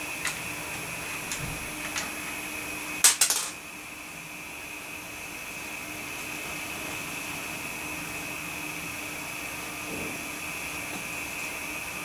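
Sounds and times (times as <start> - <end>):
computer high whine: 0.0 - 12.0
low hum and hiss: 0.0 - 12.0.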